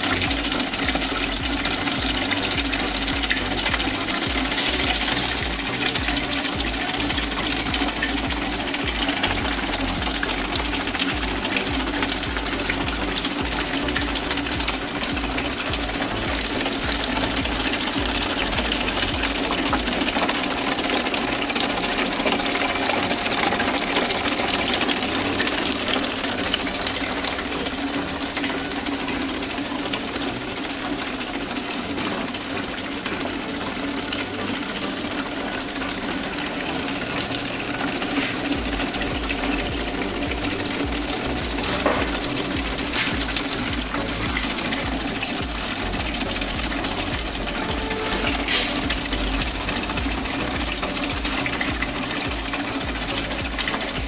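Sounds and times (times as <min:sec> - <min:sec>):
machine hum: 0:00.0 - 0:54.0
water pouring and splashing: 0:00.0 - 0:54.0.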